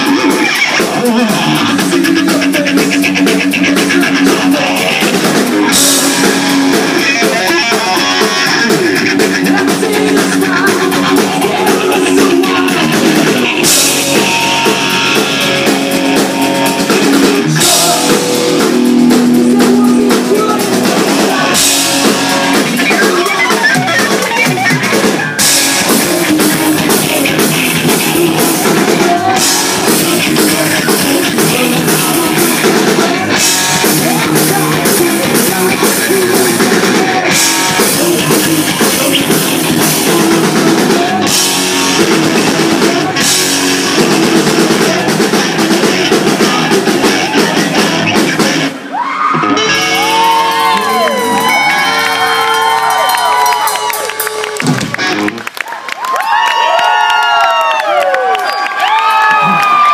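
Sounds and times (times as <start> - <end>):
hard rock band playing: 0.0 - 55.6, 56.2 - 59.9.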